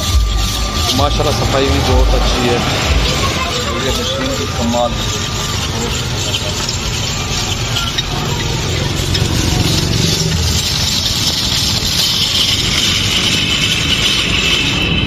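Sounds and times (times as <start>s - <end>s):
ice grinding scraping hiss: 0.0s - 15.0s
motor rumble: 0.0s - 15.0s.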